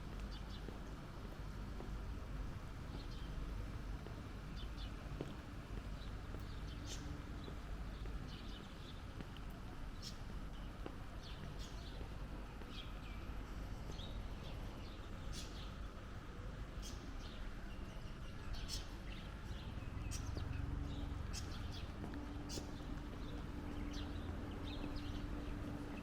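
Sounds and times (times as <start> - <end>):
distant city traffic rumble: 0.0 - 26.0
low engine hum: 0.0 - 26.0
small birds chirping: 2.8 - 26.0.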